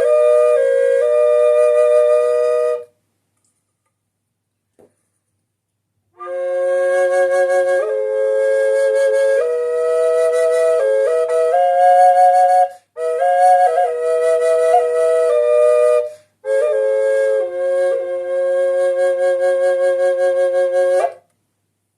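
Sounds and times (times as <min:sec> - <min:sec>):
drone flute melody: 0:00.0 - 0:02.9, 0:06.2 - 0:21.2.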